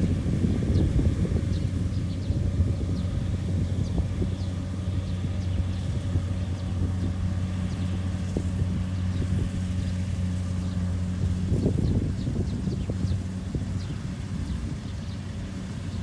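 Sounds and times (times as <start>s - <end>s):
combine harvester engine running: 0.0s - 16.0s
rough engine clatter: 0.0s - 16.0s.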